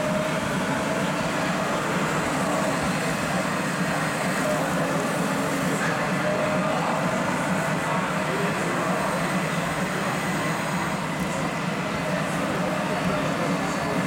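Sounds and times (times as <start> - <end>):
busy exhibition hall din: 0.0 - 14.0.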